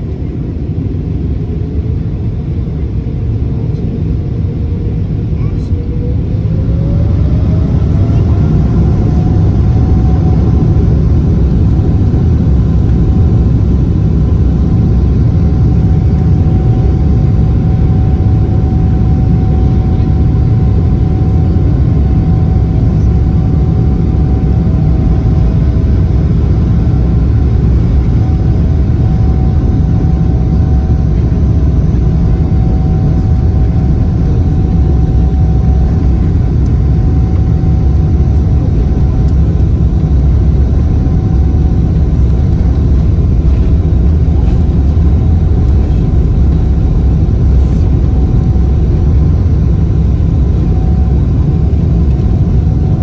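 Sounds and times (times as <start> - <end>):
faint steady whine: 0.0 - 53.0
jet engines low rumble: 0.0 - 53.0.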